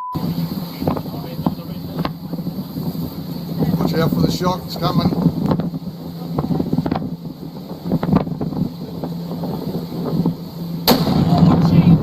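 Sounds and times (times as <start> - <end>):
low hum: 0.0 - 12.0
wind buffeting microphone: 0.2 - 12.0.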